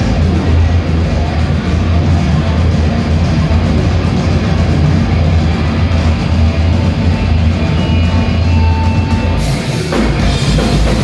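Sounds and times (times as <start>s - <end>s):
thrash metal band playing live: 0.0s - 11.0s.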